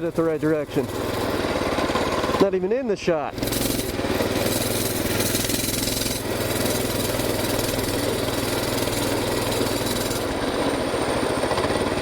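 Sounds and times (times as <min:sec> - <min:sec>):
mini bike engine running: 0:00.0 - 0:12.0.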